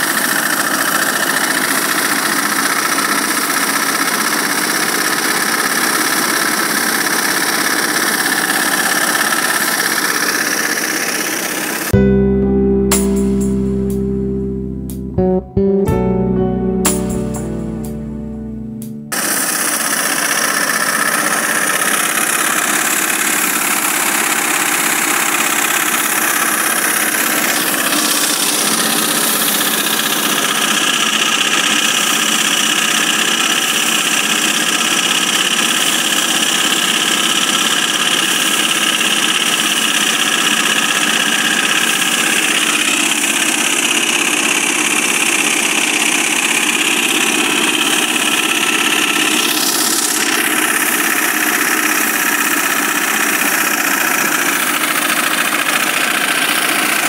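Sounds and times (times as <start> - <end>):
small engine running: 0.0 - 12.0, 19.1 - 57.0.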